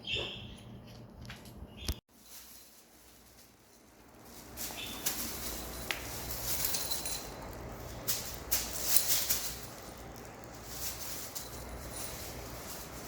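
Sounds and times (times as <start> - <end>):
cats rustling and scraping: 0.9 - 13.0.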